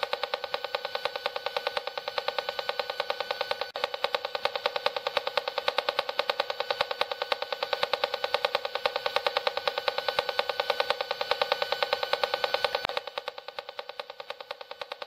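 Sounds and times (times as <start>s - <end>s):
rapid buzzing pulse: 0.0s - 15.0s.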